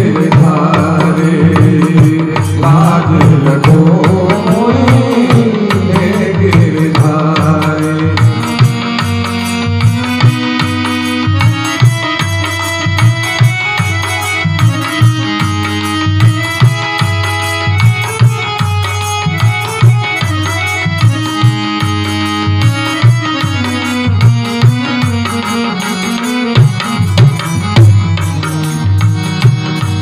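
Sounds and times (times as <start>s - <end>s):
hand drum beat: 0.0s - 30.0s
held melody notes: 0.0s - 30.0s.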